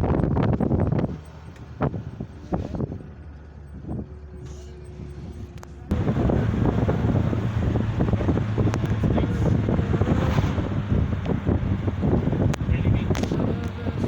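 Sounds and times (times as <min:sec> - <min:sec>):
wind on microphone: 0:00.0 - 0:04.2, 0:04.9 - 0:14.0
vehicle road noise: 0:00.0 - 0:14.0.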